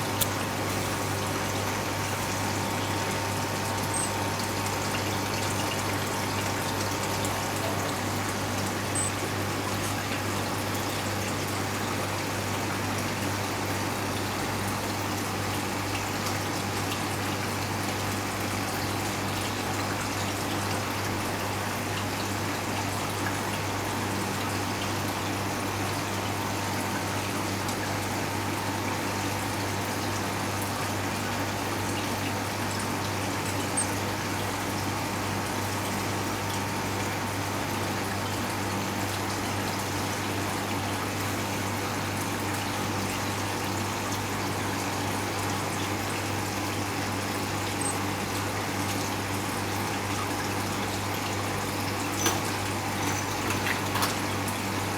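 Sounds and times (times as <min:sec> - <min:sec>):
running water: 0:00.0 - 0:54.9.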